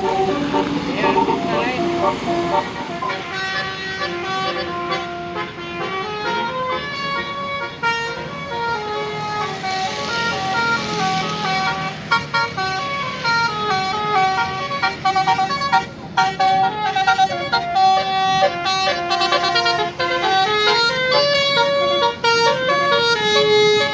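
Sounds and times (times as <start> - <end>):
musical air horn tune: 0.0 - 23.9.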